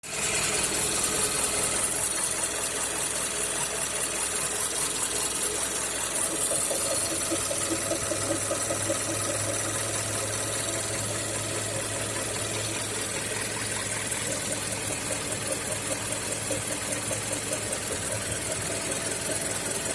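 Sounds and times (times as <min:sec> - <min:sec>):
car engine idling: 0:00.0 - 0:19.9
rhythmic engine knocking: 0:00.0 - 0:19.9.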